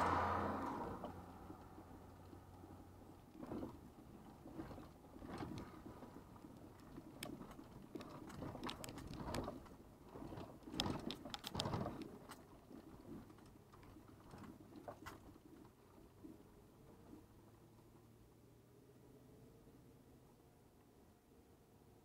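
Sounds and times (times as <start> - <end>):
low car hum: 0.0 - 22.0.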